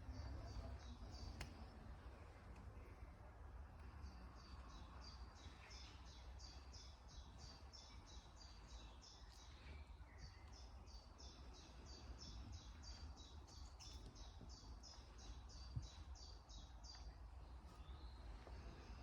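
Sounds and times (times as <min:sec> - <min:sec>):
faint low rumble: 0:00.0 - 0:19.0
songbird chirping: 0:00.0 - 0:19.0.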